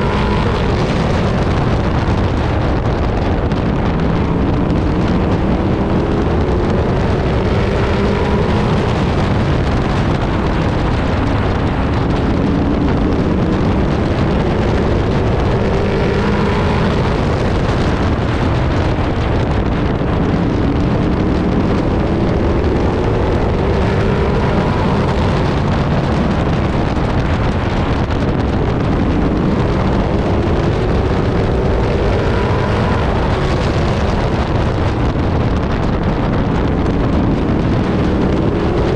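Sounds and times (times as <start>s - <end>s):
racing truck engine accelerating: 0.0s - 38.9s
wind buffeting microphone: 0.0s - 38.9s.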